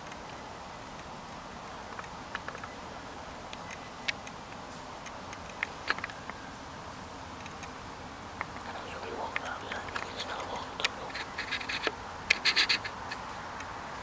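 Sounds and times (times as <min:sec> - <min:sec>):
small irregular clicks: 0:00.0 - 0:02.8, 0:03.4 - 0:06.4, 0:07.3 - 0:14.0
faint hiss: 0:00.0 - 0:14.0.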